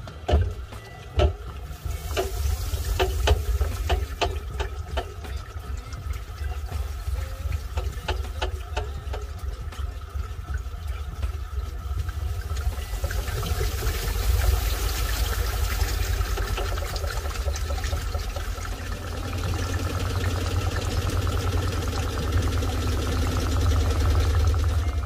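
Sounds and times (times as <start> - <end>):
washing machine sloshing water: 0.0 - 25.0.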